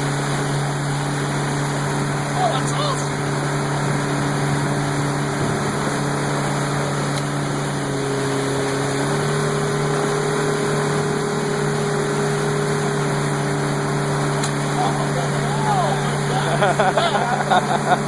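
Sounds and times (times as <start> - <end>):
motorboat engine running: 0.0 - 18.0
water and wind noise: 0.0 - 18.0.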